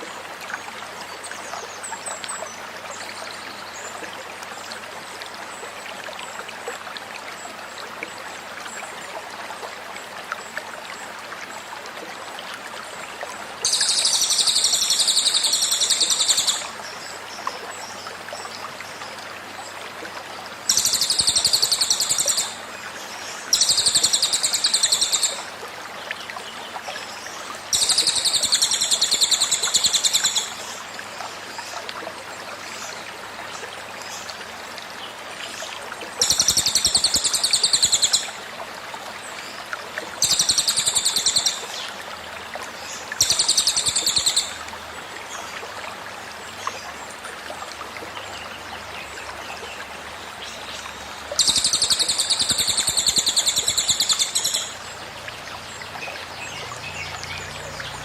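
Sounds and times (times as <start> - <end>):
flowing stream: 0.0 - 58.0.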